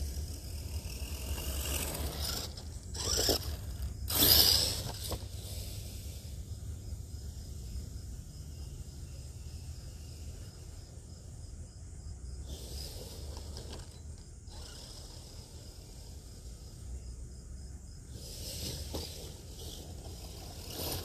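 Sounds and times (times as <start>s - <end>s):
toy truck motor whirring: 0.0s - 11.0s, 12.4s - 16.9s, 18.1s - 21.0s.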